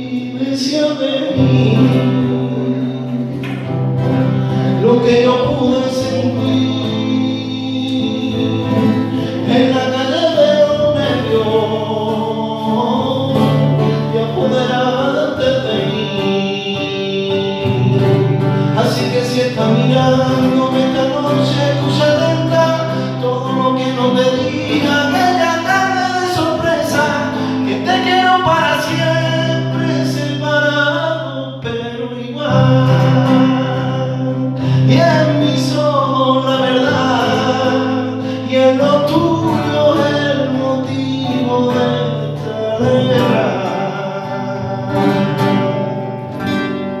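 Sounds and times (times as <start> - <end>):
strummed guitar: 0.0 - 47.0.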